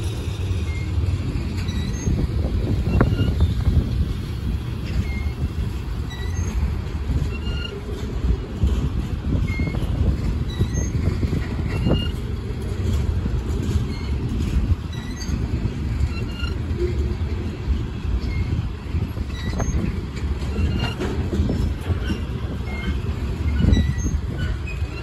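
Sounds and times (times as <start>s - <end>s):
high wheel squeaks: 0.0s - 25.0s
train wheels rumbling on rails: 0.0s - 25.0s.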